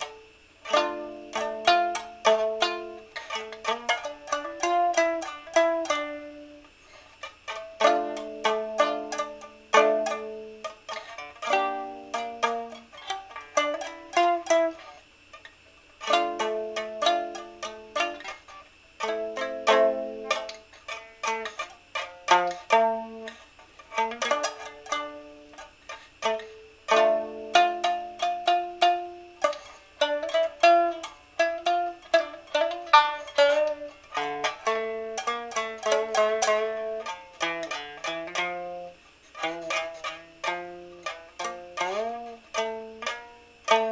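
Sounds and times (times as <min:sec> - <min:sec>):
solo instrumental music: 0:00.0 - 0:06.7, 0:07.5 - 0:15.0, 0:16.0 - 0:18.4, 0:19.0 - 0:43.9.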